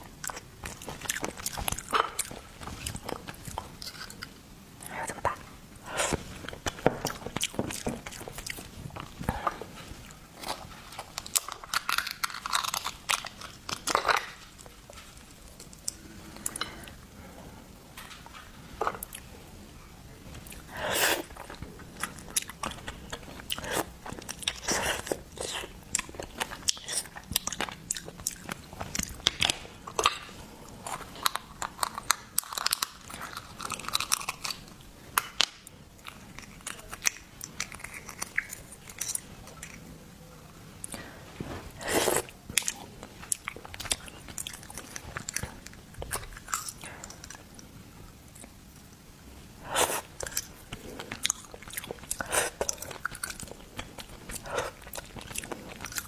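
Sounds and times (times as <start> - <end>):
crunching and wet chewing: 0.0 - 17.0, 20.3 - 40.0, 40.7 - 49.0, 49.6 - 56.0.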